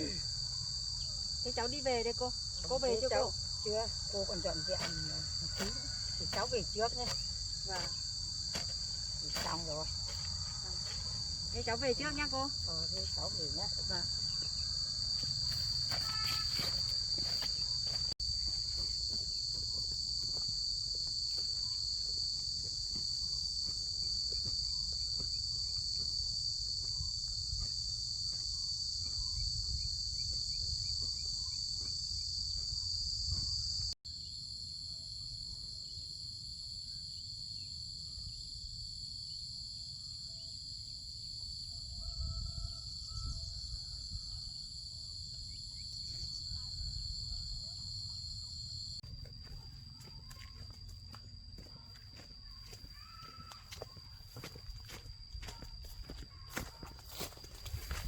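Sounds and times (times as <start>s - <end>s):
insect chorus shrilling: 0.0s - 34.0s, 45.3s - 58.0s.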